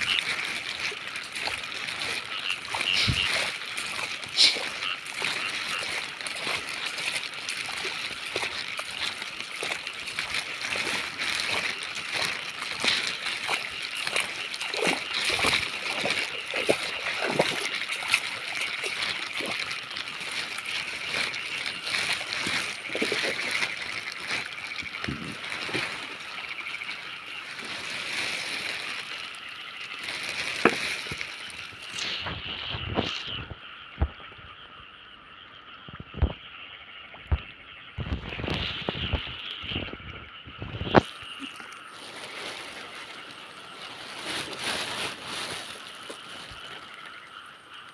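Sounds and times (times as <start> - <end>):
water splashing and sloshing: 0.0 - 47.9.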